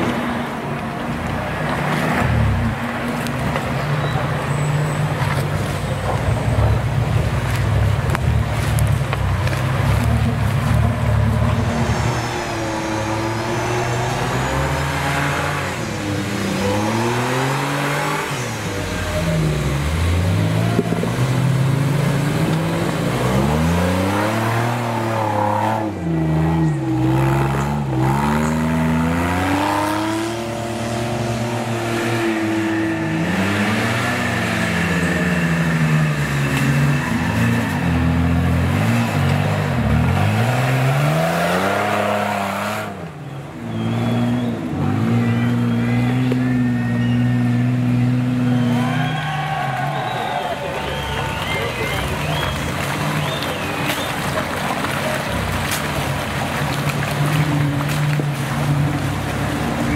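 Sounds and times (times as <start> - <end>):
off-road vehicle engine revving: 1.2 - 59.9.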